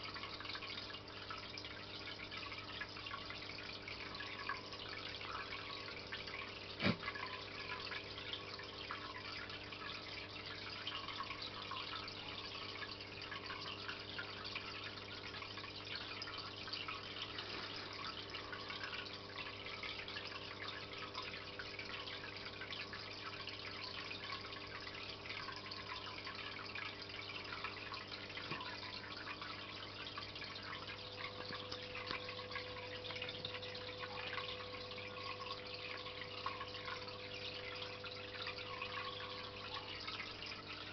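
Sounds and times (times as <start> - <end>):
low mechanical hum: 0.0 - 40.9
water trickling and bubbling: 0.0 - 40.9.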